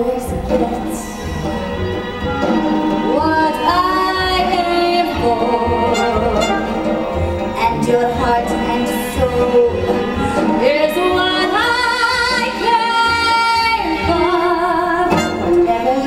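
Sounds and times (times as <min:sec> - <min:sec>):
woman singing: 0:00.0 - 0:01.2, 0:03.0 - 0:06.6, 0:07.5 - 0:16.0
instrumental accompaniment: 0:00.0 - 0:16.0.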